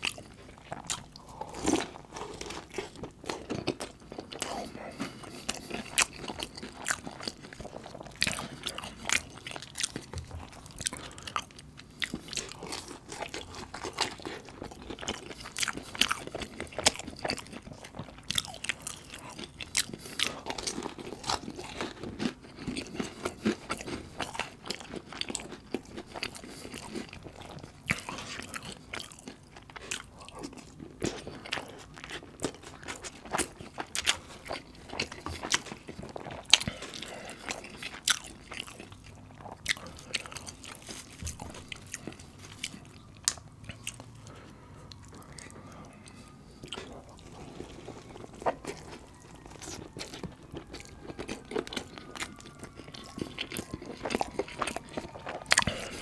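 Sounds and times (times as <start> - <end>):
crunchy pastry chewing: 0.0 - 56.0.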